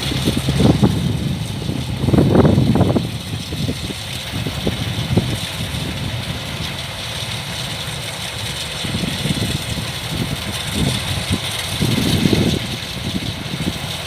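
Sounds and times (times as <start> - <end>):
combine harvester diesel engine: 0.0 - 14.0.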